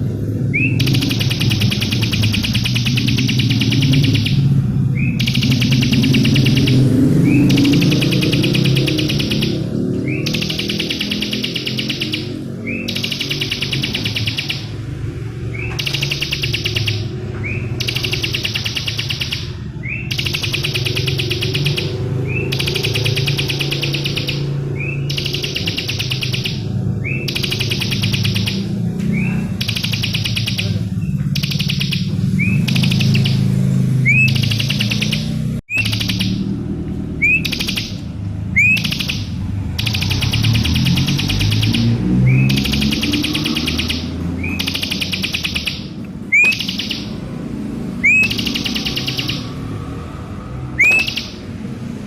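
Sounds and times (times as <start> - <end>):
bird trilling high notes: 0.0 - 52.0
short rising chirp: 0.3 - 51.9.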